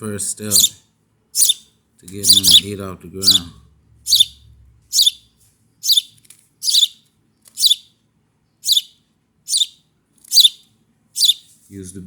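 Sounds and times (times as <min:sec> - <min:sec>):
baby bird chirping: 0:00.5 - 0:00.8, 0:01.4 - 0:08.0, 0:08.6 - 0:11.5.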